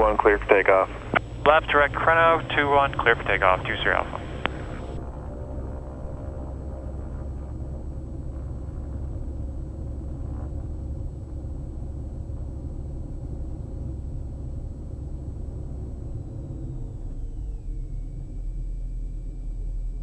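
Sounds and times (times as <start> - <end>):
aircraft engines droning: 0.0 - 20.0.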